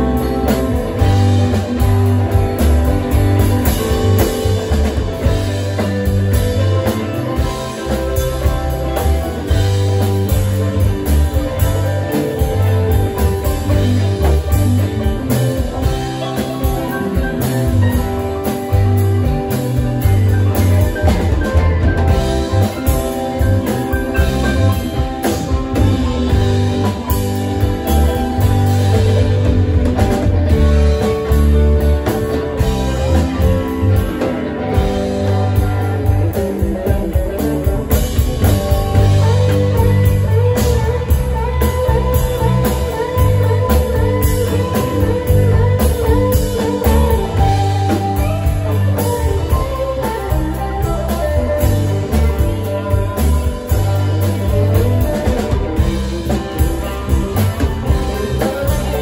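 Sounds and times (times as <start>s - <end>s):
bass guitar: 0.0s - 59.0s
drum kit: 0.0s - 59.0s
electric guitar: 0.0s - 59.0s
keyboards: 0.0s - 59.0s.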